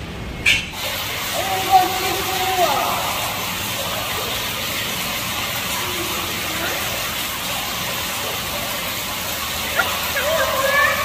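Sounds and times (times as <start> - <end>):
water pouring into a pond: 0.7 - 11.0.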